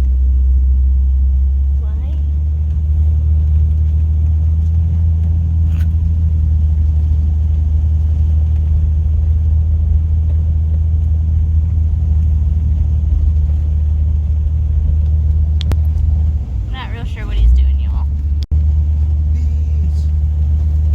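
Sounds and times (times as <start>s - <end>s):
car engine running: 0.0s - 20.9s.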